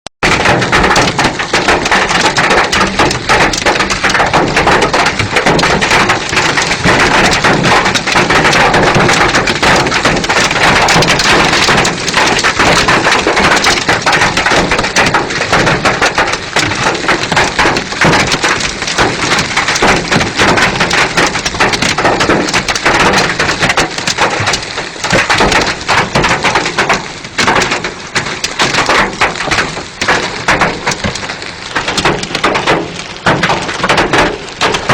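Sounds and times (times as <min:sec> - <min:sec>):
heavy rain pouring: 0:00.2 - 0:34.9.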